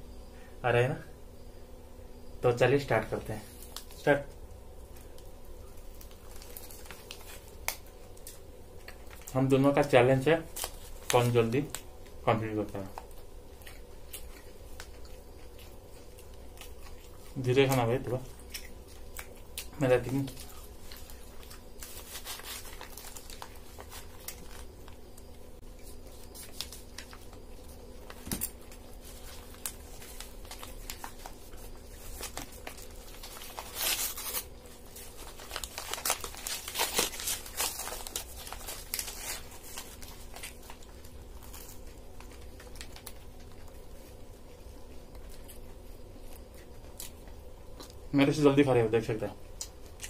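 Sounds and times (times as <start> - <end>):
faint steady hum: 0.0 - 50.0
paper wrappers crinkling and tearing: 4.9 - 49.2.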